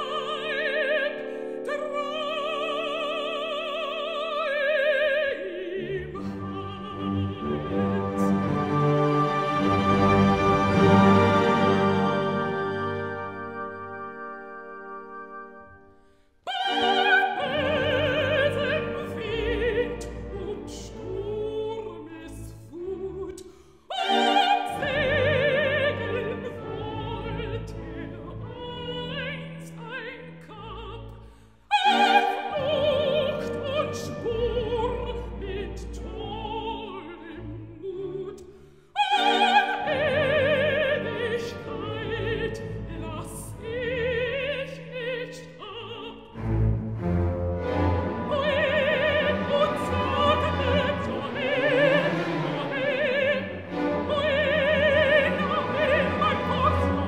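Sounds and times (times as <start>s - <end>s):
operatic soprano singing: 0.0s - 14.2s, 16.4s - 57.0s
orchestra playing: 5.5s - 23.3s, 23.9s - 30.0s, 31.8s - 38.3s, 39.1s - 57.0s.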